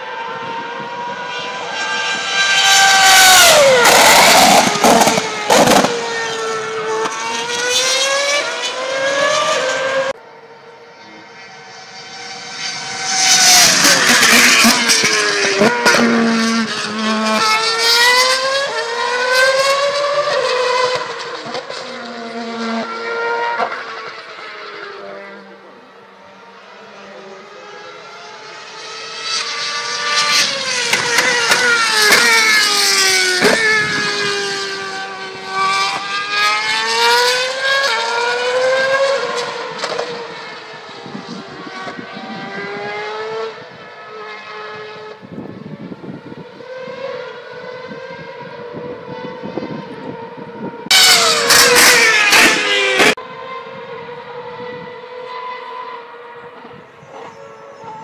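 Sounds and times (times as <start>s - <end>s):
racing car engines at high revs: 0.0s - 58.0s.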